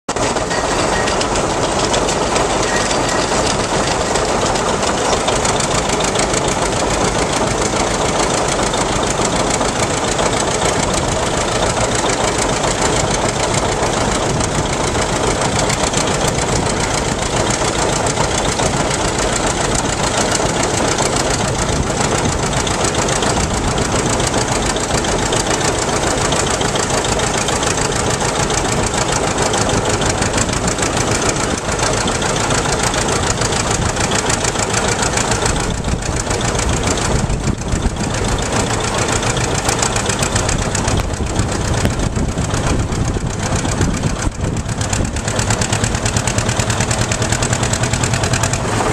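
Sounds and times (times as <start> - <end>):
tractor engine pulsing under load: 0.1 - 48.9.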